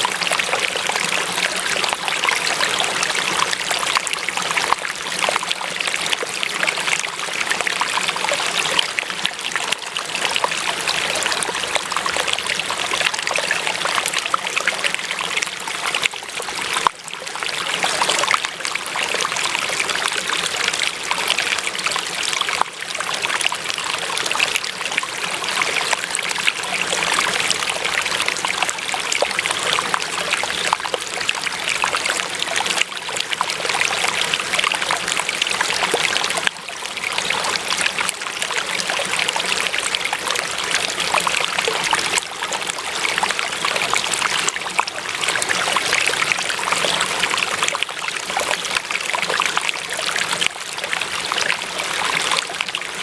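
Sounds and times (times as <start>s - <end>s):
water trickling and splashing: 0.0s - 53.0s.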